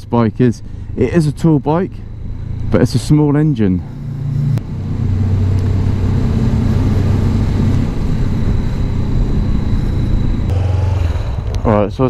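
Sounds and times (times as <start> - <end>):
motorcycle engine running: 0.9 - 12.0.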